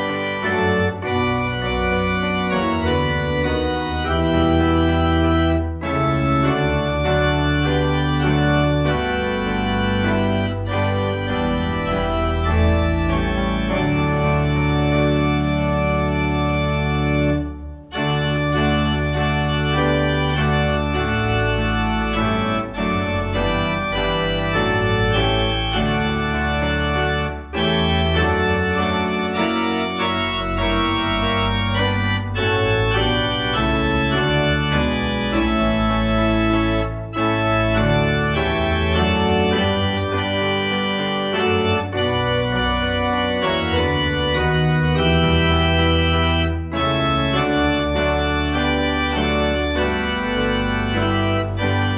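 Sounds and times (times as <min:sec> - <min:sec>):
organ playing hymn chords: 0:00.0 - 0:51.9.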